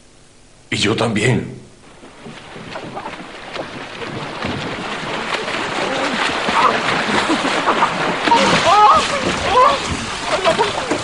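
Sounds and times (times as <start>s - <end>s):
water splashing and surging: 1.8s - 11.0s.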